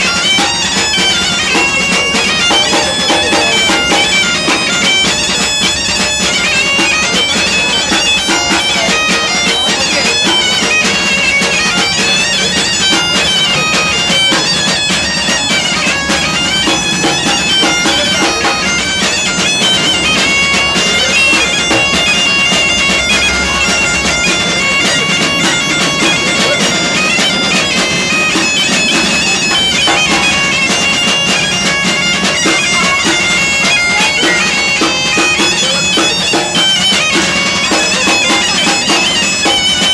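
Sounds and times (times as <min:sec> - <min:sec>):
bagpipe playing tune: 0:00.0 - 0:39.9.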